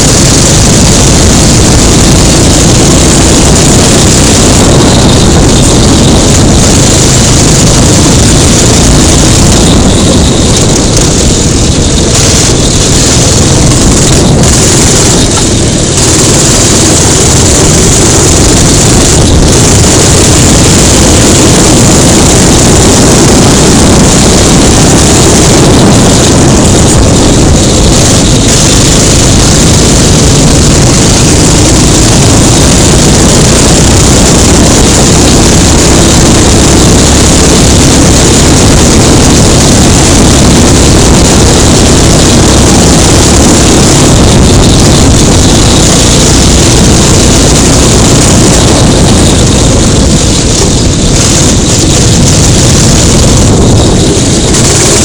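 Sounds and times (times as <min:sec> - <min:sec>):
go-kart engine running: 0:00.0 - 0:55.0
wind rush on microphone: 0:00.0 - 0:55.0.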